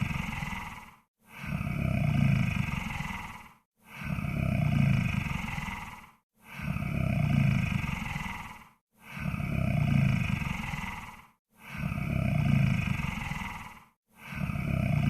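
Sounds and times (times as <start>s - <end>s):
deep growly snoring: 0.0s - 15.0s.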